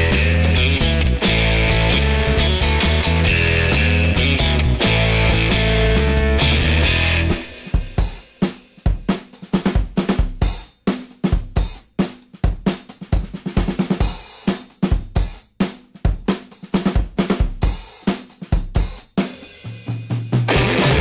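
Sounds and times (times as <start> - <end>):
drum kit beat: 0.0 - 21.0.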